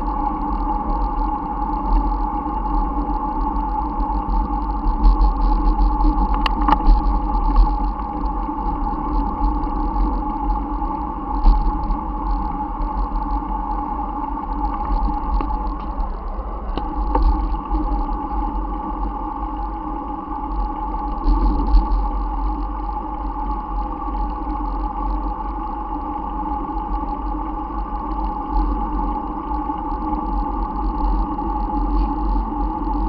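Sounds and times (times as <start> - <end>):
bicycle rolling noise: 0.0 - 33.0
constant hum-like drone: 0.0 - 33.0
low uneven rumble: 0.0 - 33.0.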